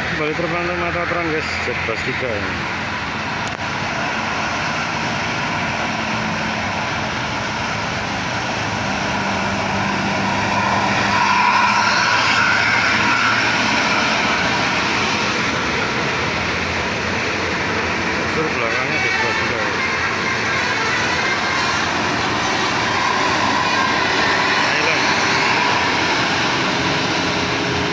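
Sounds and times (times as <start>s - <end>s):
bus diesel engine passing: 0.0s - 27.9s
tyres on road: 0.0s - 27.9s.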